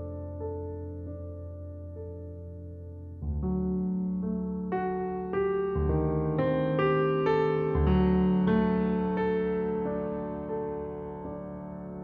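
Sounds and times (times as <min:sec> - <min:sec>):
slow solo piano: 0:00.0 - 0:12.0.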